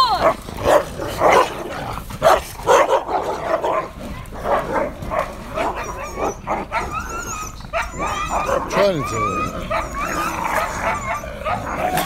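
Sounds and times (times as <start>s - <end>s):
dogs snarling and barking: 0.0s - 12.0s
dogs whining yelps: 0.0s - 12.0s.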